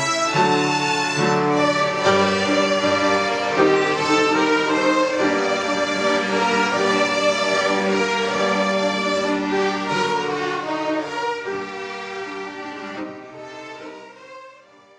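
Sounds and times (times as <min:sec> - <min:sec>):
violin music: 0:00.0 - 0:14.9.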